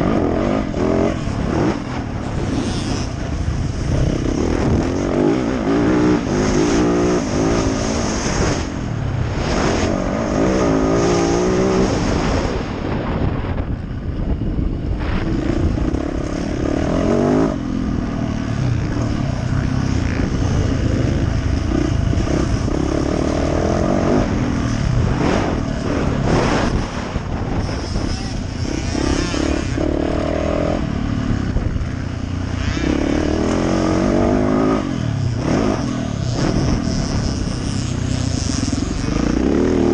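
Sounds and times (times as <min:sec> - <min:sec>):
motocross bike engine revving: 0:00.0 - 0:13.0, 0:14.9 - 0:39.9.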